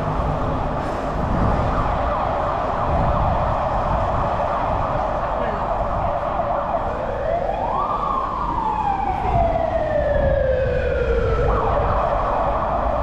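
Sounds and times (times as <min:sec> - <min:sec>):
emergency siren yelp and wail: 0:00.0 - 0:13.0
low road traffic rumble: 0:00.0 - 0:13.0.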